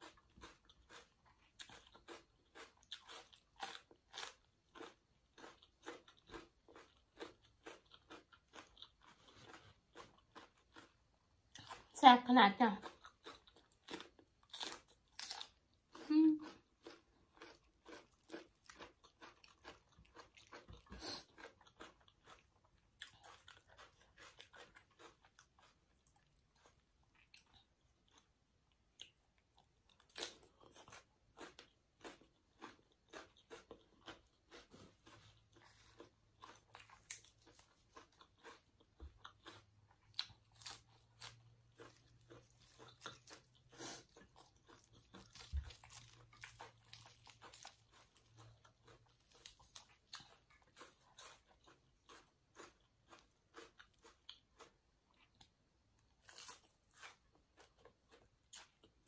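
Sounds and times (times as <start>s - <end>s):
person crunching salad: 0.0s - 11.9s, 12.8s - 28.3s, 29.0s - 55.4s, 56.0s - 59.0s.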